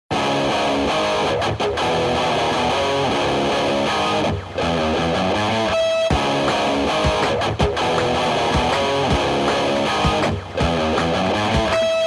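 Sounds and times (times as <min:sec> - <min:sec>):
guitar background music: 0:00.1 - 0:12.0.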